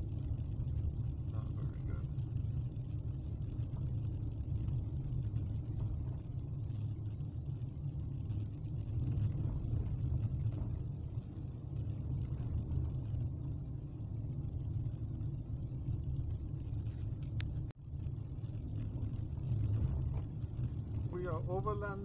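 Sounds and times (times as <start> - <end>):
car cabin road and engine rumble: 0.0 - 22.0.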